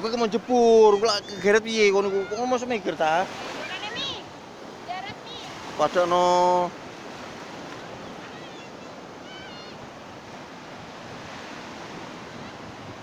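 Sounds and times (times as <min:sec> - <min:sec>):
faint distant calls: 0:00.0 - 0:12.9
surf breaking on beach: 0:00.0 - 0:13.0.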